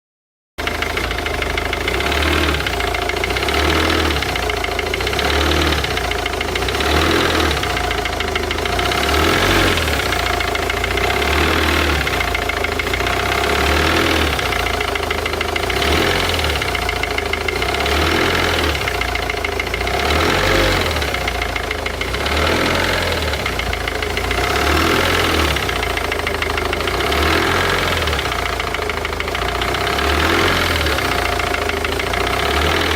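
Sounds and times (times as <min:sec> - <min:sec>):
diesel engine running: 0:00.6 - 0:32.9
engine knocking: 0:00.6 - 0:32.9.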